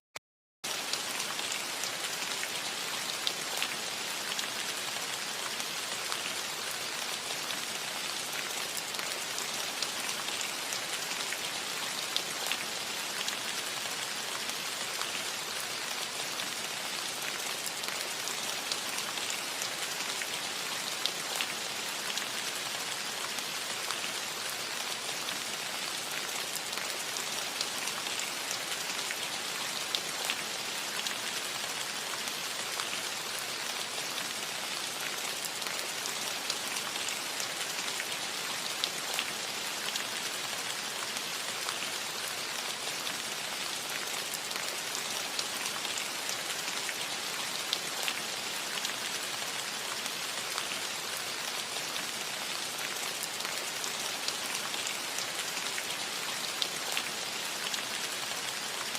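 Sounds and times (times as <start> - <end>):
rain falling on a roof: 0.6 - 58.9.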